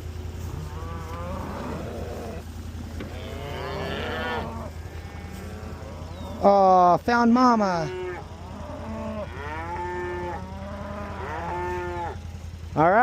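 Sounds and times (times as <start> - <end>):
cattle mooing: 0.4 - 6.8, 7.6 - 12.3.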